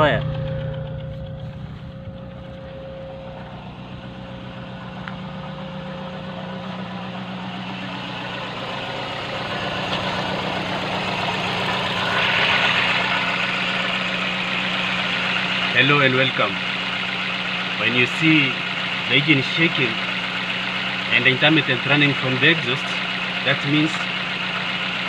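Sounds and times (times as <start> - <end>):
car engine idling with misfire: 0.0 - 25.0.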